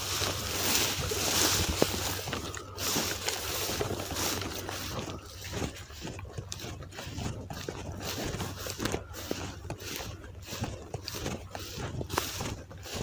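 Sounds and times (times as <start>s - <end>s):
rustling and sloshing through reeds: 0.0s - 13.0s
wind rumble on microphone: 0.0s - 13.0s.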